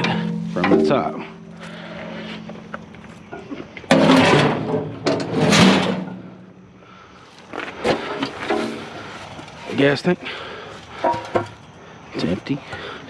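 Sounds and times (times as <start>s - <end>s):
metal grill parts scraping and clanking: 0.0s - 6.4s, 7.8s - 10.0s, 10.9s - 12.9s.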